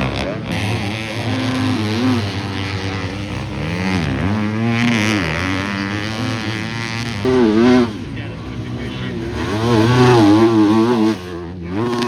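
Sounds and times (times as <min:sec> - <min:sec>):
motocross engines revving: 0:00.0 - 0:12.0.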